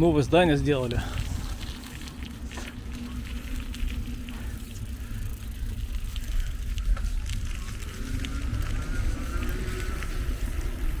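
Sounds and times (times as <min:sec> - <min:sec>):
bicycle rolling noise: 0:00.0 - 0:11.0
wind rumbling on microphone: 0:00.0 - 0:11.0.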